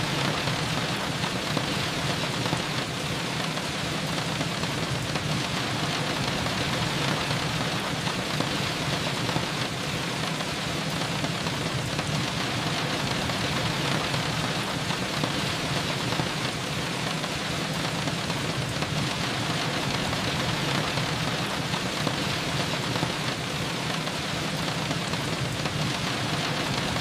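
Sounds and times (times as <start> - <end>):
steady rain hiss: 0.0 - 27.0.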